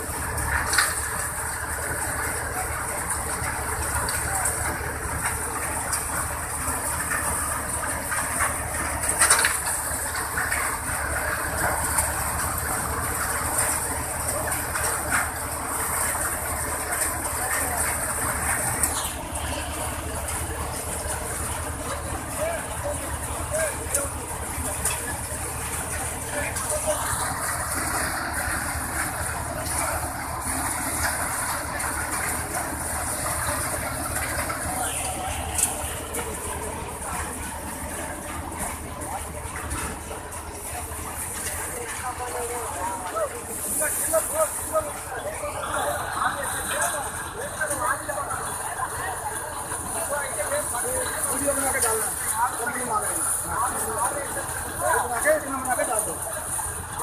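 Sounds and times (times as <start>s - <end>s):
tractor engine drone: 0.0s - 57.0s.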